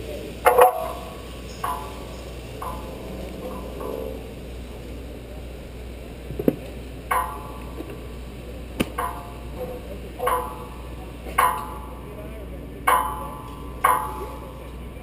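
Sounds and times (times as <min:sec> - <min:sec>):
ringing metallic clanks: 0:00.0 - 0:05.7, 0:07.1 - 0:15.0.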